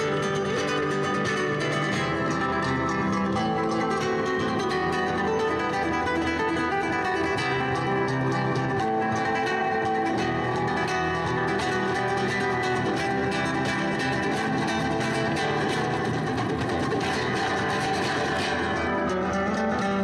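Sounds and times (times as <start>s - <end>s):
acoustic guitar background music: 0.0s - 20.0s.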